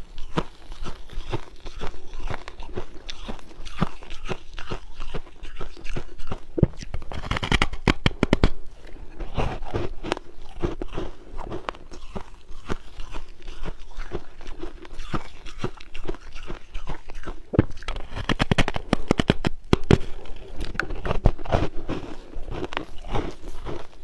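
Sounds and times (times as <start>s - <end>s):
chewing crunching ice: 0.0s - 24.0s.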